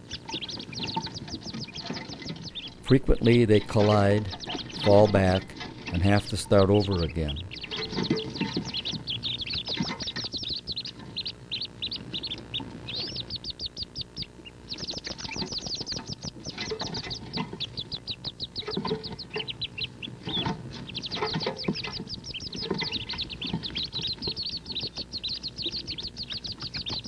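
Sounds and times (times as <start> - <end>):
ducklings peeping: 0.0 - 27.0.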